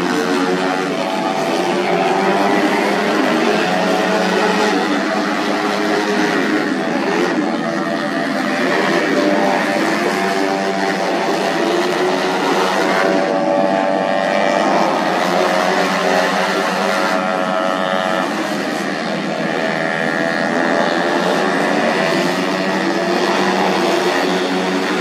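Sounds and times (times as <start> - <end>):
racing scooter engines revving: 0.0 - 25.0.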